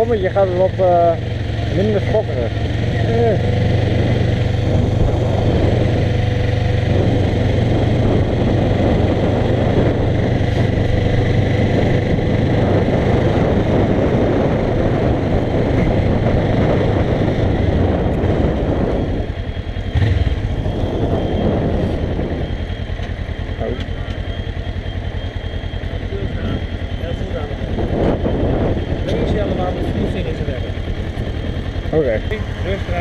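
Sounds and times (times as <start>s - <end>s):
wind noise on microphone: 0.0s - 25.1s, 25.8s - 33.0s
motorcycle engine running: 0.0s - 33.0s.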